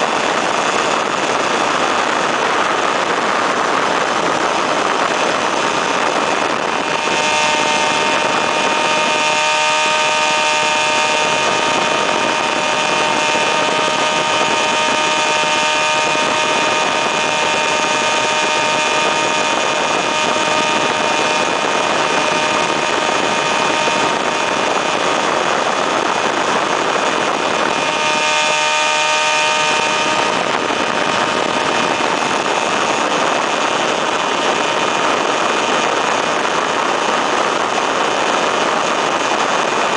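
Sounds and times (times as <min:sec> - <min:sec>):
aircraft engine running: 0:00.0 - 0:39.9
propeller noise: 0:00.0 - 0:39.9
rushing wind: 0:00.0 - 0:39.9.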